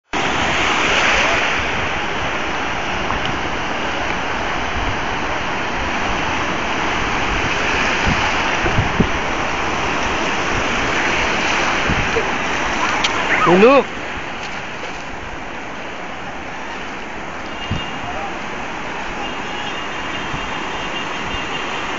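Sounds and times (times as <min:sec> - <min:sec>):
sea surf breaking: 0:00.1 - 0:19.2.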